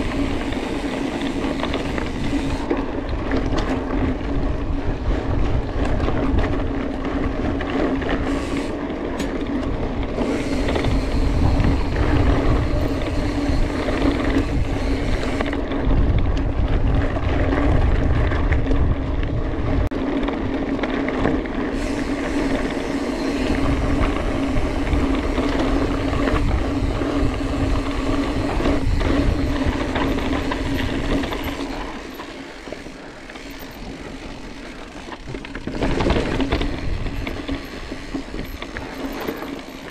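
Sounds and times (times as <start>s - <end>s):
bike drivetrain buzz: 0.0s - 39.9s
bike tyres rumbling on trail: 0.0s - 39.9s
rushing wind: 0.0s - 39.9s.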